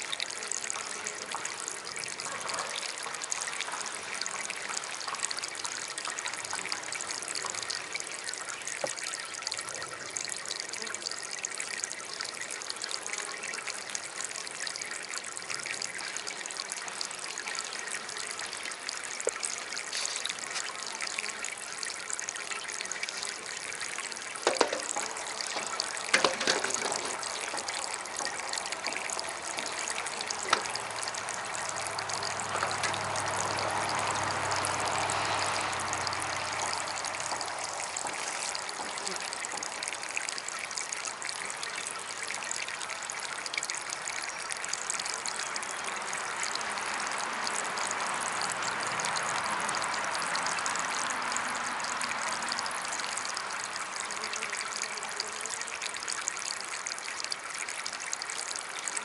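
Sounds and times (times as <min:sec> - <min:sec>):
water splashing: 0:00.0 - 0:12.5, 0:13.3 - 0:54.0
small water fountain trickling: 0:00.0 - 0:59.0.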